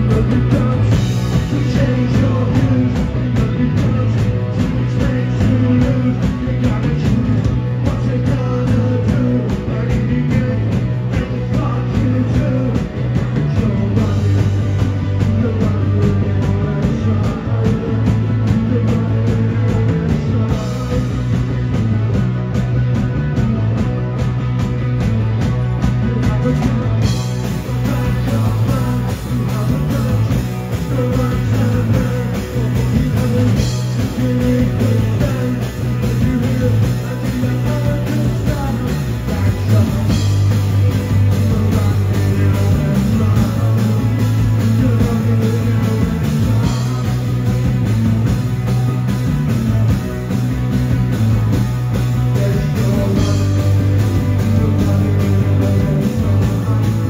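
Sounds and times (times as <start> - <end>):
backing singer: 0.0 - 57.0
drum kit: 0.0 - 57.0
electric guitars: 0.0 - 57.0
lead vocals: 0.0 - 57.0.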